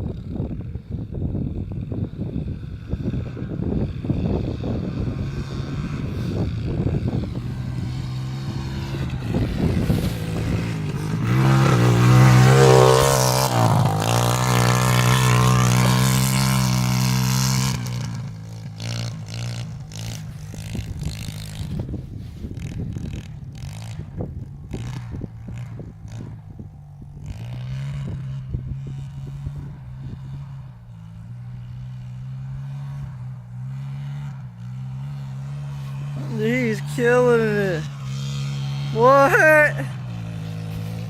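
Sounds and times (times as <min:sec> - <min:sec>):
pit bike engine revving: 0:01.1 - 0:41.0.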